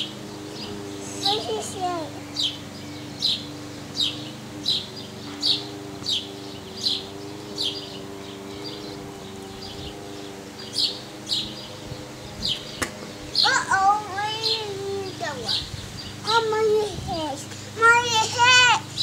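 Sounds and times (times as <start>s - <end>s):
bird chirping: 0.0s - 19.0s
steady low hum: 0.0s - 19.0s.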